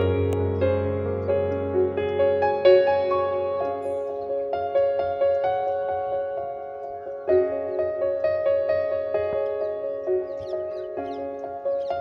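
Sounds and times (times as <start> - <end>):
slow soft background music: 0.0 - 12.0.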